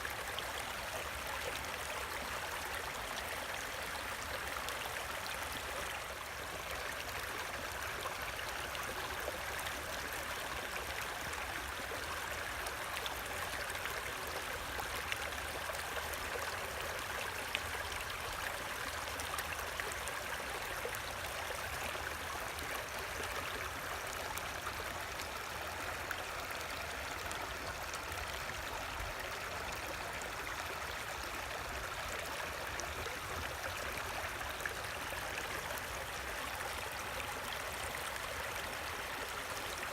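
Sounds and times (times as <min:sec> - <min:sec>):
creek water rushing: 0:00.0 - 0:39.9
water trickles and drips: 0:00.0 - 0:39.9.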